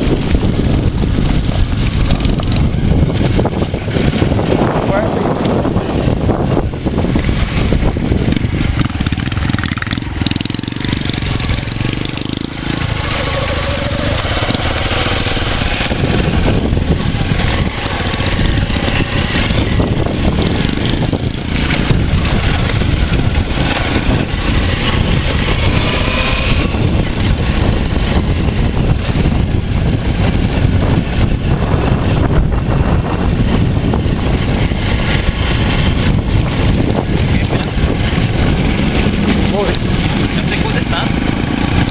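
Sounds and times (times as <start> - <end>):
motorcycle engine running: 0.0 - 41.9
wind buffeting microphone: 0.0 - 41.9.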